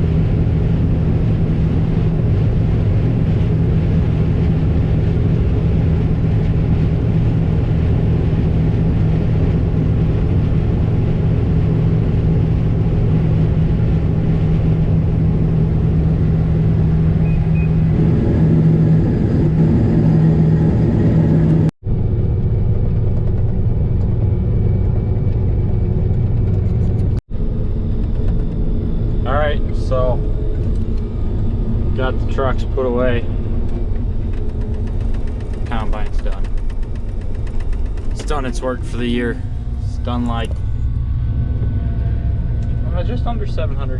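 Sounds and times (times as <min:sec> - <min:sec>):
vehicle engine humming: 0:00.0 - 0:43.9.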